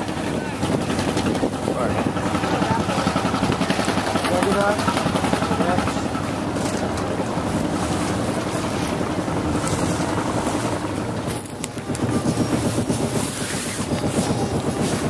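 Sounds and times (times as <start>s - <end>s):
water washing along hull: 0.0s - 15.0s
wind buffeting microphone: 0.0s - 15.0s.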